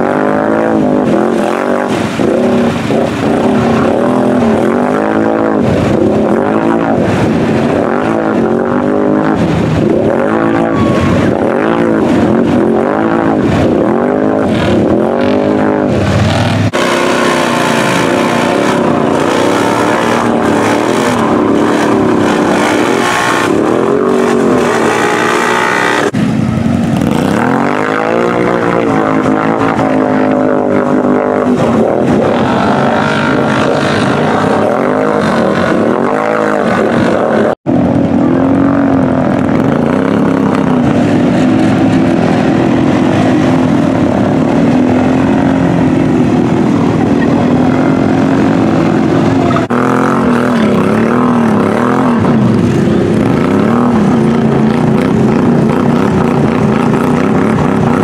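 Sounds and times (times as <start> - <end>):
quad engines revving: 0.0 - 58.0.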